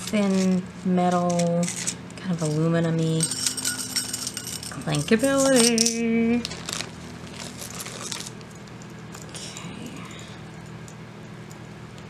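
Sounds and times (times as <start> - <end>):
jewelry clinking: 0.0 - 10.7.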